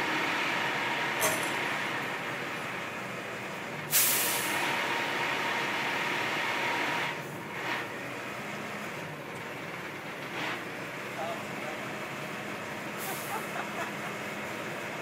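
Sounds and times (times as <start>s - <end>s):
crane truck running: 0.0s - 15.0s.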